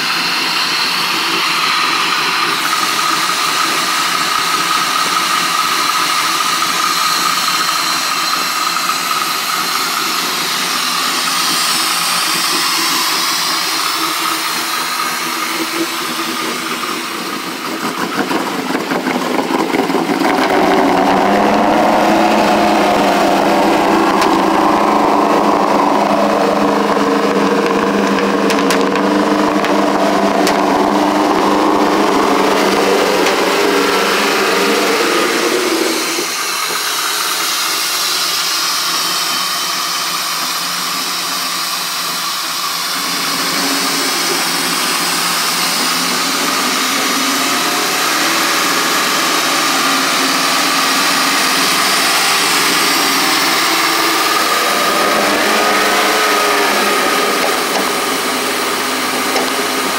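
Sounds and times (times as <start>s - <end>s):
engine bay whir: 0.0s - 59.9s
low exhaust note: 0.0s - 59.9s.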